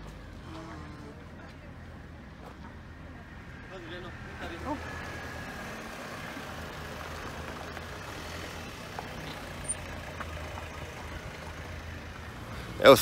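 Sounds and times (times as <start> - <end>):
low rumble of motor vehicles: 0.0 - 13.0.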